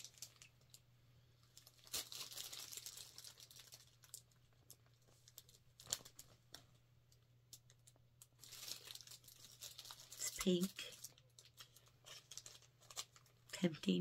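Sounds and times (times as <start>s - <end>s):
plastic packaging crinkling: 0.0s - 0.8s, 1.4s - 14.0s.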